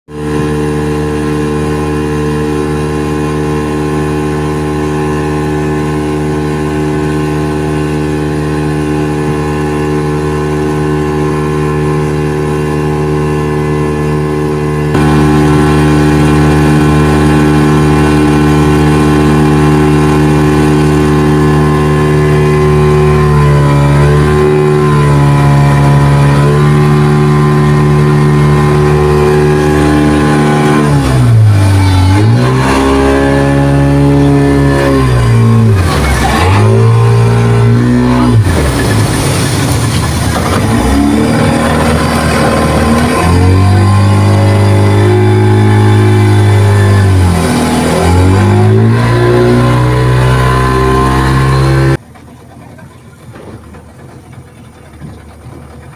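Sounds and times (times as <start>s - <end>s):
outboard motor running at high throttle: 0.1s - 55.9s.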